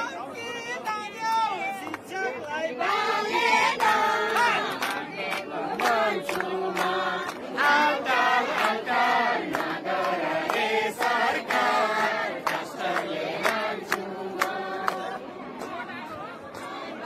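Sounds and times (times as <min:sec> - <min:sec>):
group of people singing: 0:02.5 - 0:17.0.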